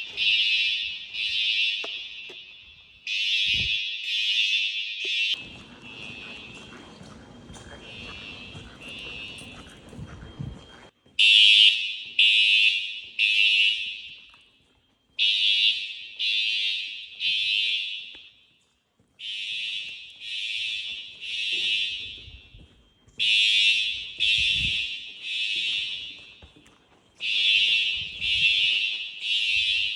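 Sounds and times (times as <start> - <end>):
fire alarm horn blasts: 0.0 - 18.6, 19.2 - 29.9.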